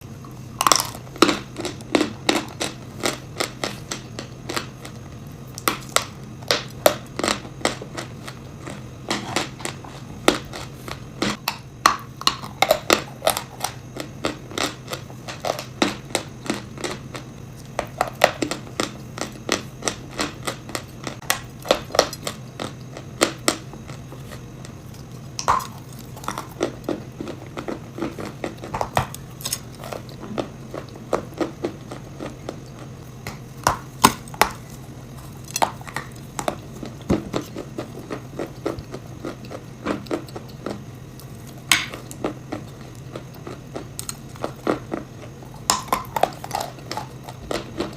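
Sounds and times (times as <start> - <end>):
steady low hum: 0.0 - 47.9
crunching and chewing: 0.1 - 47.9.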